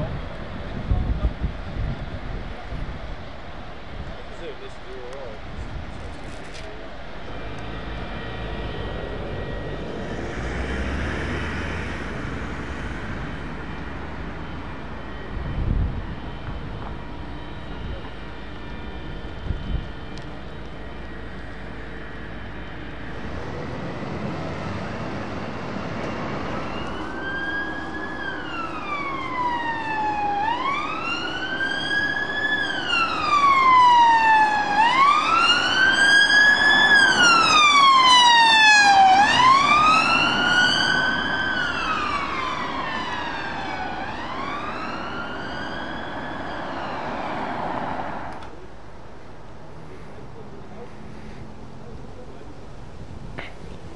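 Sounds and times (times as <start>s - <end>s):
police siren wailing: 0.0s - 48.8s
road and engine noise: 0.0s - 53.9s.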